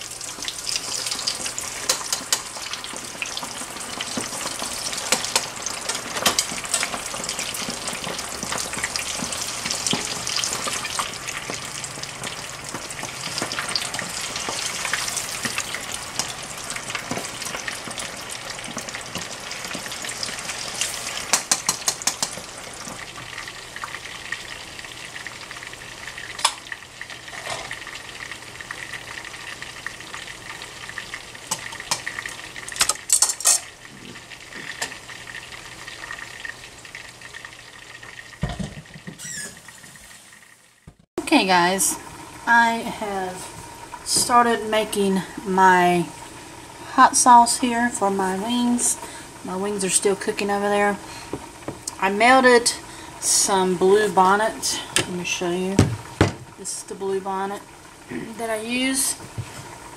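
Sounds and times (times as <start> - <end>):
deep-frying sizzle with pops: 0.0 - 59.9.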